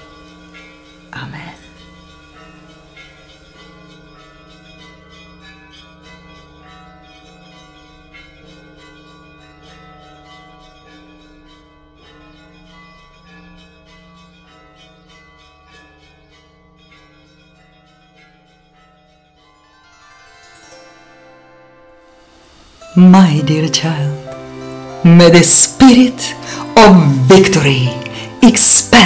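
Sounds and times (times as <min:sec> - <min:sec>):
soft bell music: 0:00.0 - 0:29.0.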